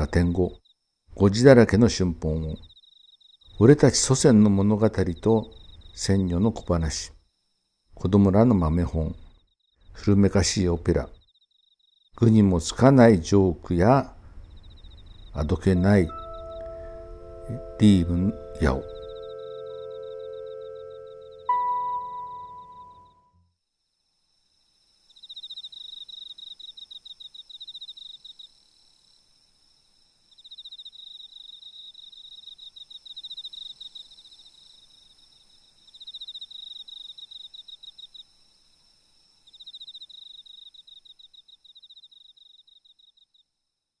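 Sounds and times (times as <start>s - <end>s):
insects trilling: 0.0s - 21.8s, 24.3s - 43.6s.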